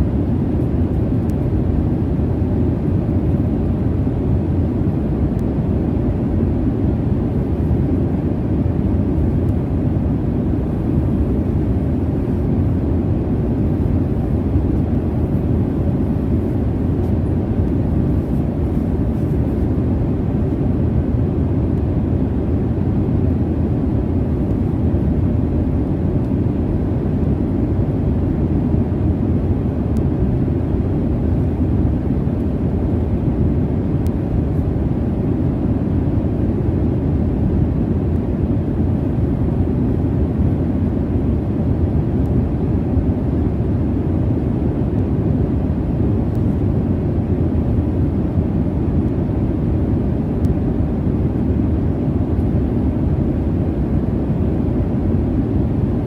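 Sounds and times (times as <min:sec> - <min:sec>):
jet engine and airflow drone: 0:00.0 - 0:56.0.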